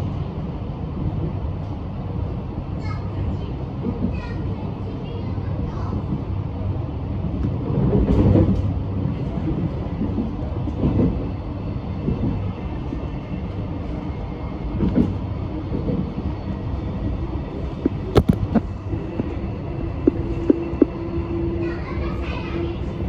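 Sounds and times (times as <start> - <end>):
rumble of wheels on rail: 0.0 - 23.0.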